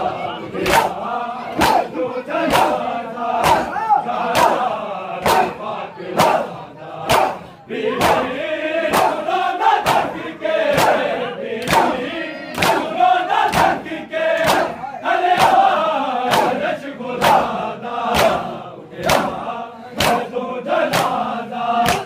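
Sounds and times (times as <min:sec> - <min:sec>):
crowd chanting: 0:00.0 - 0:22.0.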